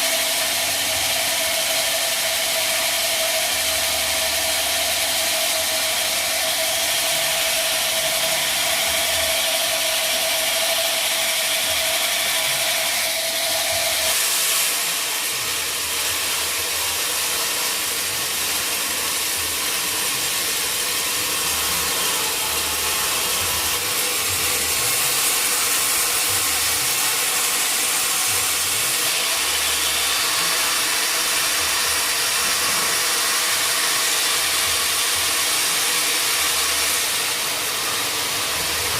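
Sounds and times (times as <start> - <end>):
saw cutting through wood: 0.0 - 38.9.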